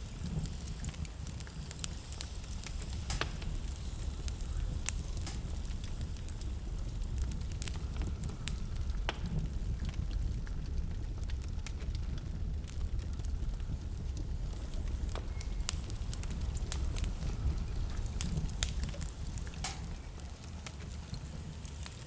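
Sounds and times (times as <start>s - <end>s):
pops and snaps of fire: 0.0s - 22.0s
wood fire crackling: 0.0s - 22.0s.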